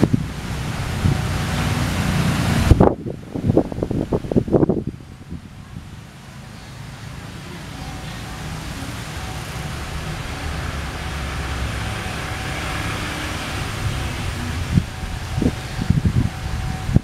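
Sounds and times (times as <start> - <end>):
train rumble and rail noise: 0.0 - 17.0.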